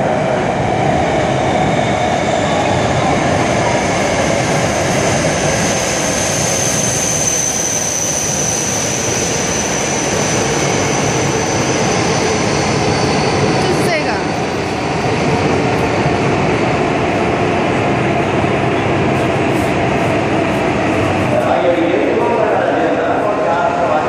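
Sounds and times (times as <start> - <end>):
high whine: 0.0 - 23.2
train rumble and rush: 0.0 - 24.0.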